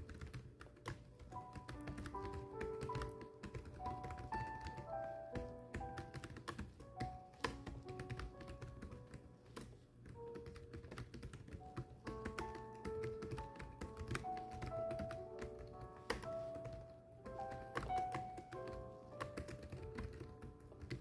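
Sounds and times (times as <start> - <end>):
keyboard typing: 0.0 - 21.0
soft background music: 0.0 - 21.0.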